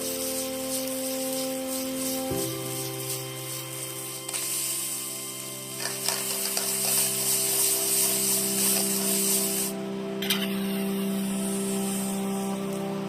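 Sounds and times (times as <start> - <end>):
water spraying with a hiss: 0.0 - 13.0.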